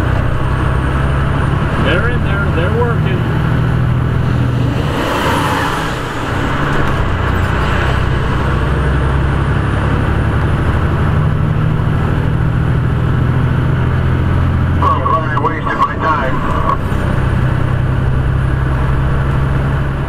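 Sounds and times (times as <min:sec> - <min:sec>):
truck diesel engine cruising: 0:00.0 - 0:20.0.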